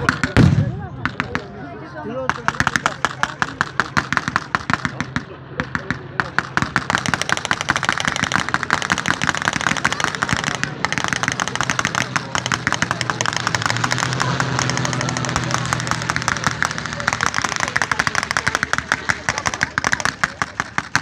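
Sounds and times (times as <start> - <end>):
machine-gun fire: 0.0 - 1.5, 2.2 - 21.0
propeller aircraft passing overhead: 0.8 - 21.0.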